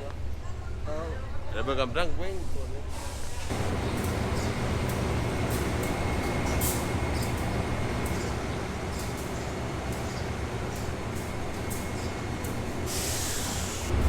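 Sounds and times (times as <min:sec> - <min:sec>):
train carriage rumble: 0:00.1 - 0:14.0.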